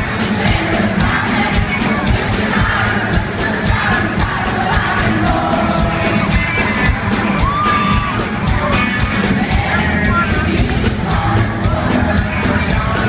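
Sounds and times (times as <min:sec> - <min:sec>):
crowd cheering and singing along: 0:00.0 - 0:13.0
live band music: 0:00.0 - 0:13.0.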